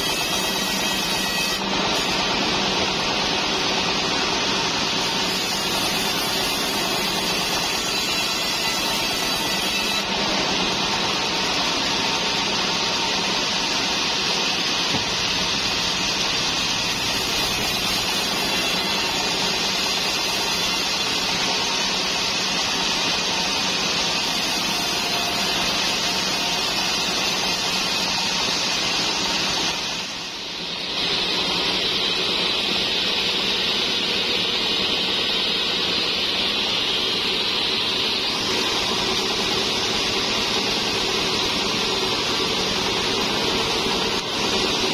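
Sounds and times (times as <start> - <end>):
band saw cutting timber: 0.0 - 44.9.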